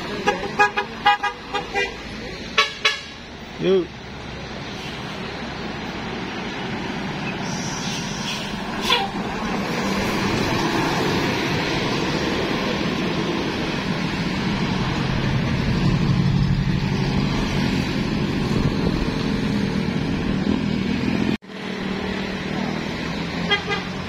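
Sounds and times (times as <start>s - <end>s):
tyres on road: 0.0s - 24.0s
vehicle engines running: 0.0s - 24.0s.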